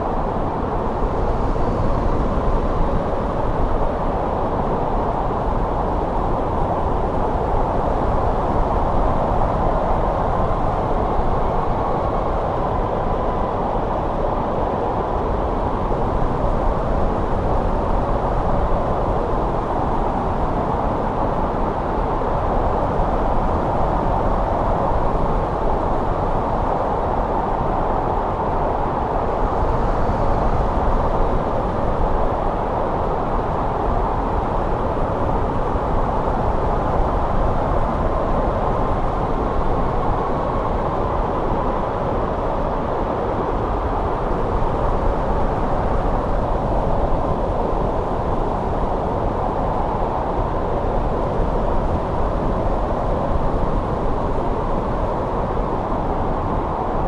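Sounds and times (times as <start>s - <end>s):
faint wind whistles: 0.0s - 57.0s.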